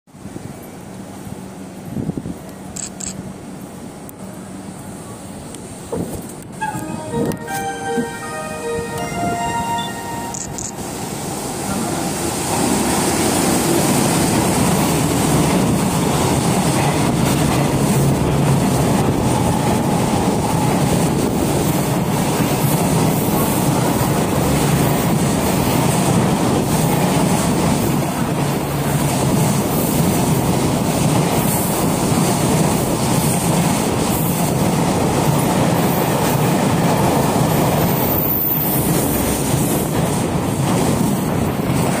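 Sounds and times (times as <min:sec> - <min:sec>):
steel wheels rumbling on rail: 0:00.1 - 0:42.0.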